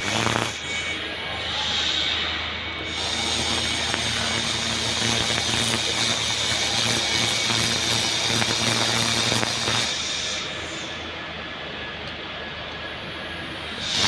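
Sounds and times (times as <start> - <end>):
laser welder hissing: 0.0 - 11.2, 13.6 - 14.0
welding machine low hum: 0.0 - 14.0.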